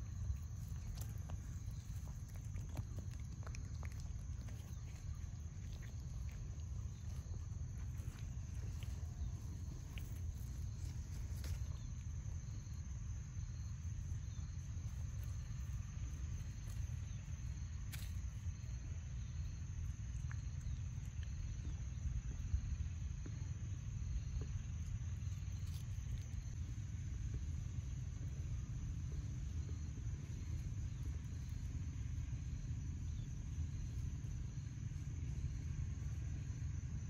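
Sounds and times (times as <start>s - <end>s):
high insect drone: 0.0s - 37.0s
low rumble: 0.0s - 37.0s.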